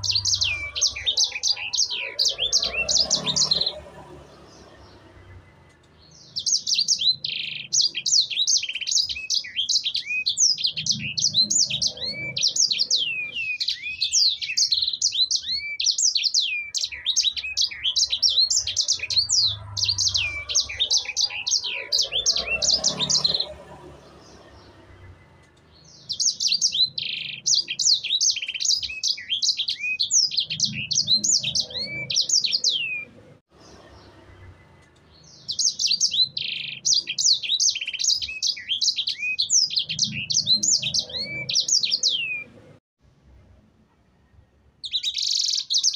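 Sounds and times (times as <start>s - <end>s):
songbird chirping and trilling: 0.0s - 42.8s, 44.0s - 45.9s.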